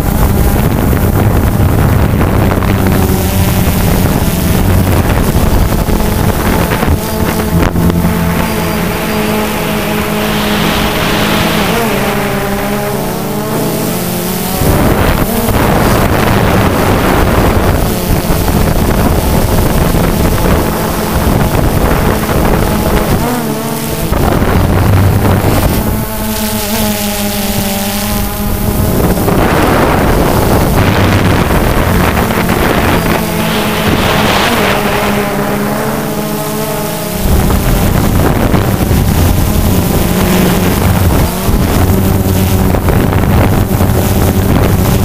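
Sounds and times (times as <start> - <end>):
drone propellers buzzing: 0.0 - 45.0
wind buffeting microphone: 0.0 - 45.0.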